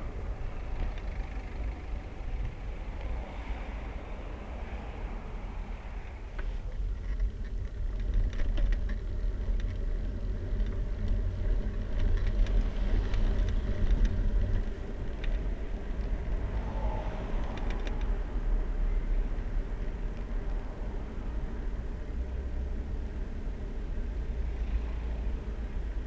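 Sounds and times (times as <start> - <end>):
cars passing: 0.0 - 7.4, 9.1 - 26.0
wind and road noise: 0.0 - 26.0.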